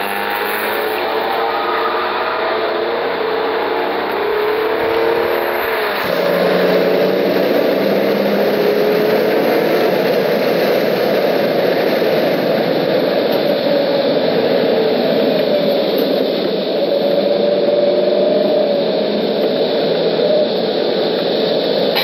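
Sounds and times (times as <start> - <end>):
car engine accelerating hard: 0.0 - 22.0
wind and tyre noise: 0.0 - 22.0.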